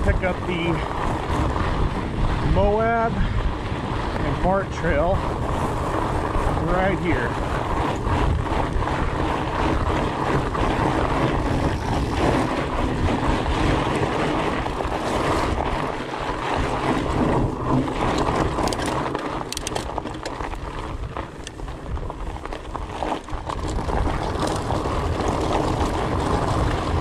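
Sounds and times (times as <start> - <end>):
bike tyres rolling on gravel: 0.0 - 27.0
wind buffeting microphone: 0.0 - 27.0.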